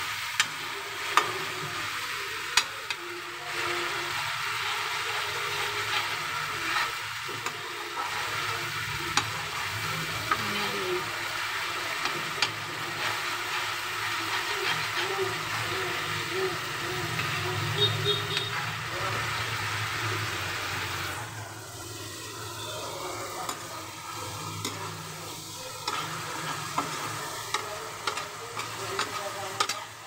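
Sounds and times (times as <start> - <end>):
masala sizzling in oil: 0.0 - 30.0.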